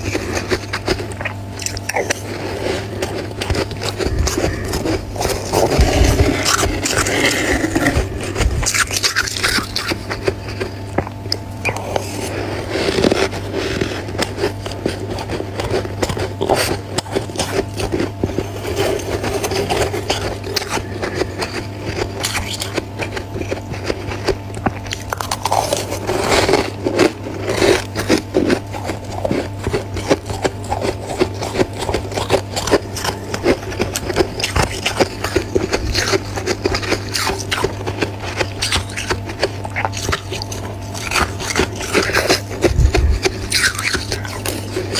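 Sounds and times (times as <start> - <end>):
frost being scraped: 0.0 - 11.0, 11.6 - 44.9
steady low hum: 0.0 - 44.9.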